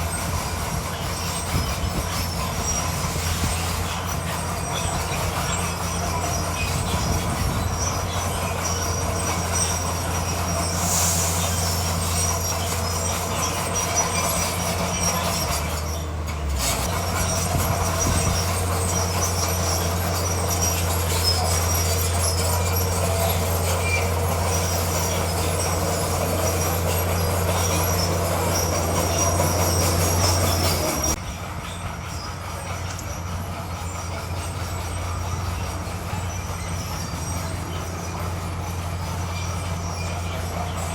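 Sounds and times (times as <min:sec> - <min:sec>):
bulldozer diesel engine running: 0:00.0 - 0:40.9
steel tracks squealing and clattering: 0:00.0 - 0:40.9.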